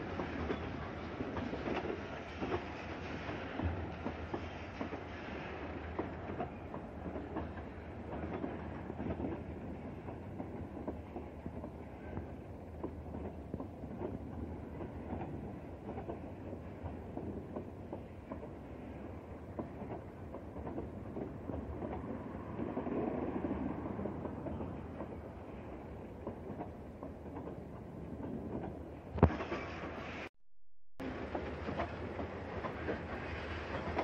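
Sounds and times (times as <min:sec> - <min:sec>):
freight train rumbling: 0:00.0 - 0:30.3, 0:31.0 - 0:34.0.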